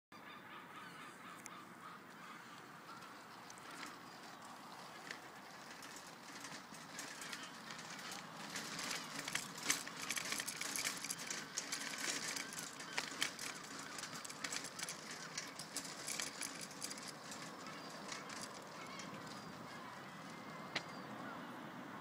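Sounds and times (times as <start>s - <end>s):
faint outdoor background: 0.1s - 22.0s
footsteps on tarmac: 2.1s - 21.2s.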